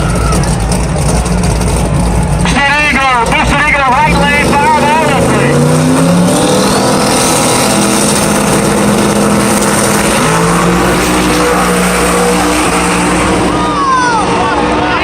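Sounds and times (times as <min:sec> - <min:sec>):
drag race car engines rumbling: 0:00.0 - 0:15.0
track noise: 0:00.0 - 0:15.0.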